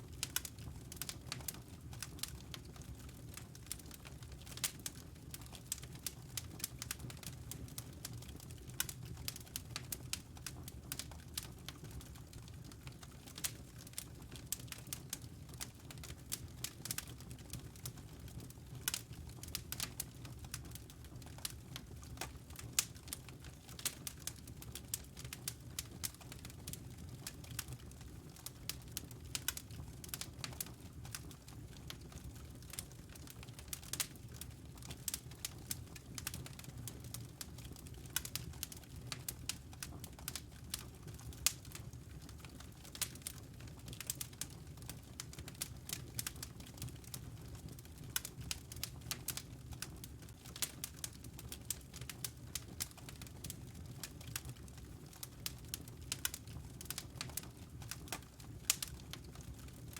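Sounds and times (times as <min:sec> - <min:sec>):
low rumble of burning fire: 0:00.0 - 0:59.9
wood fire crackling and popping: 0:00.0 - 0:59.9.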